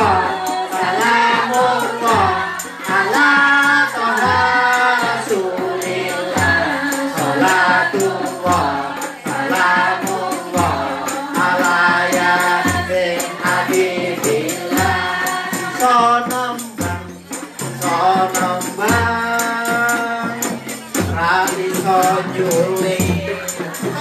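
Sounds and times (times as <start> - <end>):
person singing over backing track: 0.0 - 24.0
ticking percussion beat: 0.0 - 24.0.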